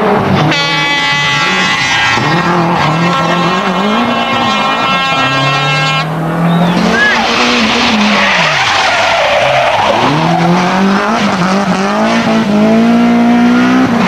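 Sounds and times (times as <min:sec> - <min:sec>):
car engine revving hard: 0:00.0 - 0:14.0
high-pitched squeal: 0:00.6 - 0:12.1.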